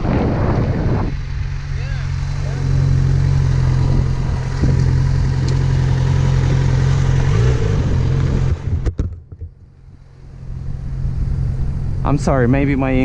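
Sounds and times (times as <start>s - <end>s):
motorcycle engine running: 0.4s - 8.9s, 9.5s - 13.0s.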